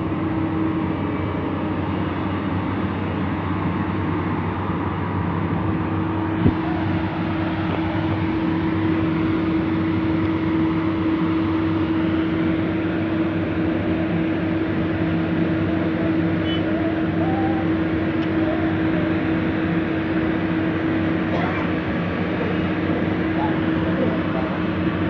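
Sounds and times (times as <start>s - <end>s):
constant whine: 0.0s - 25.0s
heavy diesel machinery running: 0.0s - 25.0s.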